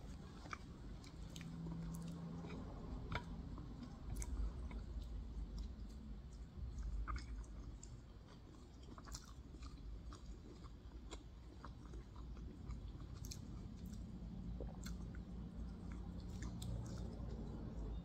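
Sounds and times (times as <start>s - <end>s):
low steady hum: 0.0s - 18.0s
person chewing: 0.0s - 18.0s.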